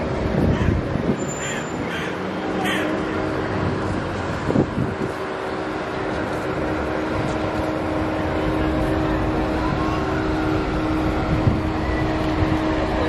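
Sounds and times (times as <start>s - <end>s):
constant low hum: 0.0s - 13.0s
road traffic: 0.0s - 13.0s.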